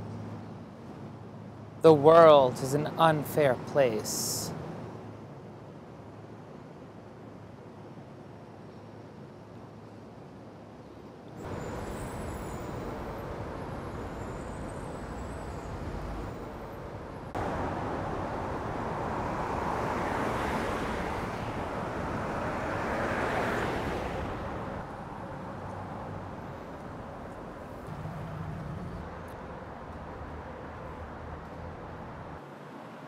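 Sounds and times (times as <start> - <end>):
road traffic rush: 0.0 - 6.2, 11.4 - 33.0.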